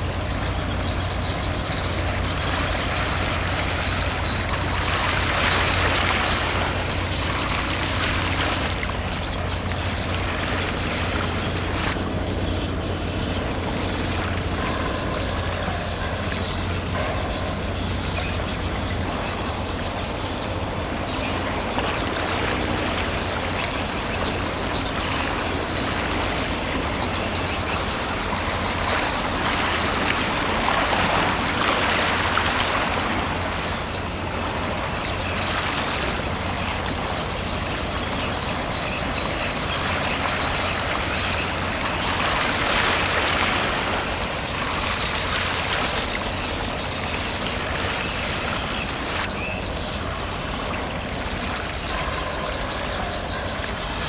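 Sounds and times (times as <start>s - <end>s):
rushing water from wake: 0.0s - 54.0s
ship engine hum: 0.0s - 54.0s.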